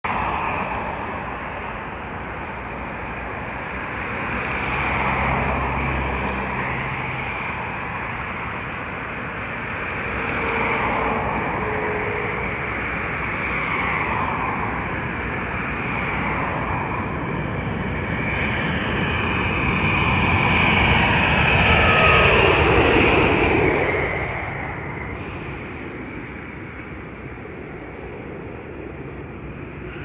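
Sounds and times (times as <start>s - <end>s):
road traffic noise: 0.1s - 29.3s.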